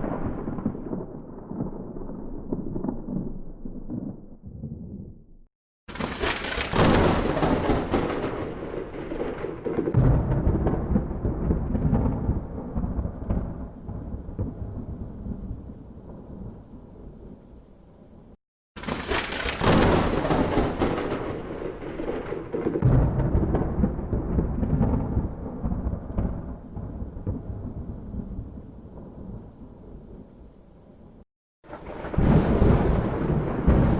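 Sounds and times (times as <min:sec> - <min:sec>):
lightning crack: 0:00.0 - 0:05.2, 0:05.9 - 0:17.4, 0:18.8 - 0:30.4, 0:31.6 - 0:33.9
thunder boom and rolling rumble: 0:00.0 - 0:33.9.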